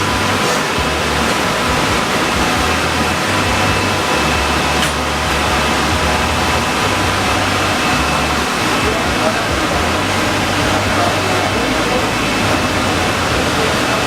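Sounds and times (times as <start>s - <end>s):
faint steady whine: 0.0s - 14.0s
uneven low hum: 0.0s - 14.0s
ventilation air rushing: 0.0s - 14.0s.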